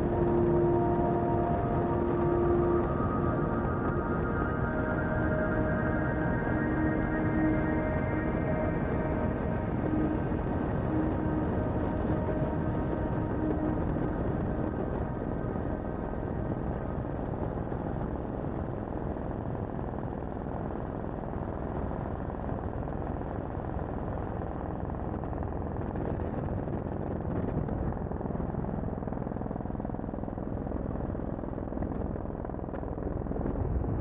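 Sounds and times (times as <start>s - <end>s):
helicopter engine and rotor: 0.0s - 34.0s
wind over microphone: 0.0s - 34.0s.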